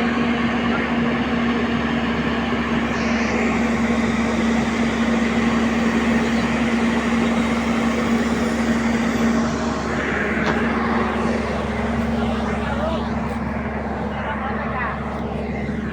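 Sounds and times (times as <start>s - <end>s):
diesel engine running steadily: 0.0s - 15.9s.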